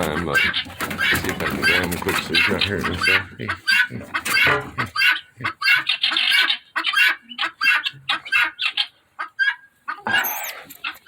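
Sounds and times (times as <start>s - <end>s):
domestic fowl calling: 0.0s - 11.0s.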